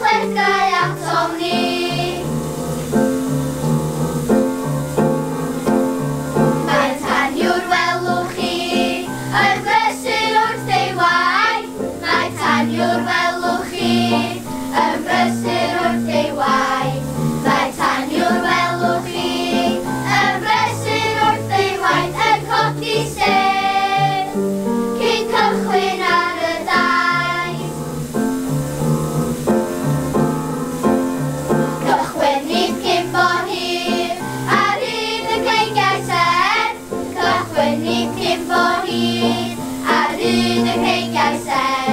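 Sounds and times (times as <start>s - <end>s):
children's choir singing: 0.0s - 3.4s, 5.6s - 28.6s, 30.8s - 41.9s
instrumental accompaniment: 0.0s - 41.9s.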